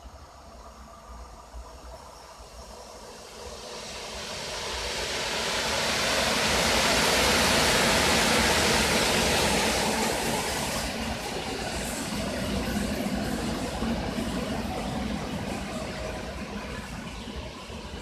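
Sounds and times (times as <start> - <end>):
train passing close by: 0.0 - 18.0.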